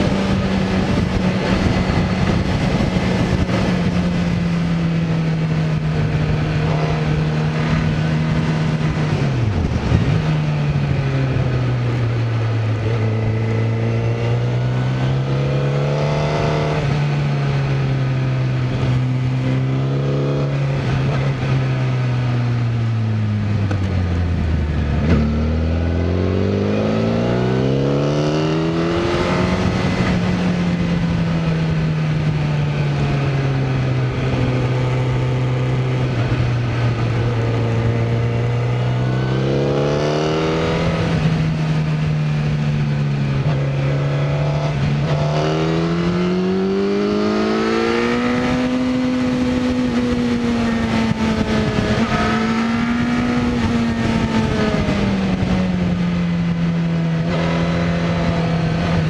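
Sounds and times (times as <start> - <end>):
motorbike engine revving: 0.0 - 59.0
wind and road noise: 0.0 - 59.0.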